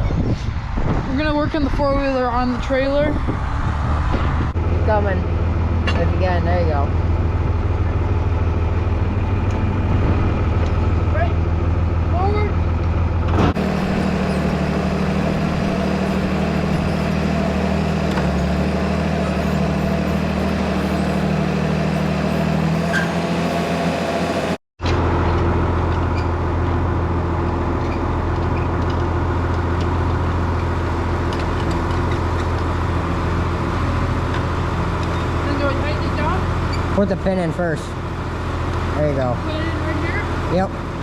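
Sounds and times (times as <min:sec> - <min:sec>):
tractor diesel engine running: 0:01.1 - 0:41.0.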